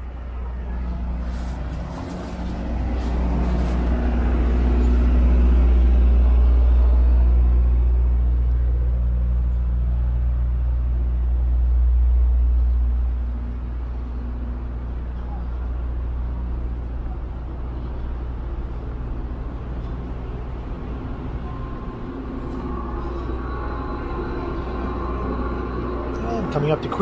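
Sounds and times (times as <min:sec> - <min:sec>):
city road traffic: 0:00.0 - 0:27.0
heavy vehicle engine rumbling: 0:00.0 - 0:27.0.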